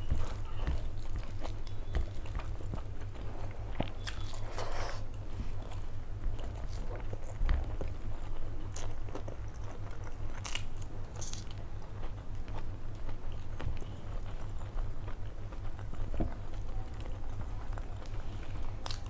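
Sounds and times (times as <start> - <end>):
close chewing: 0.0 - 19.0
steady low hum: 0.0 - 19.0.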